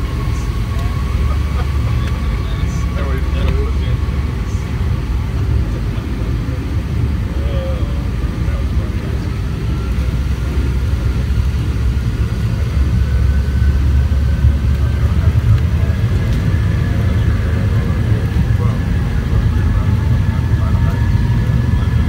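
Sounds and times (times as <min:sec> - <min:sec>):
low engine rumble in cabin: 0:00.0 - 0:22.0.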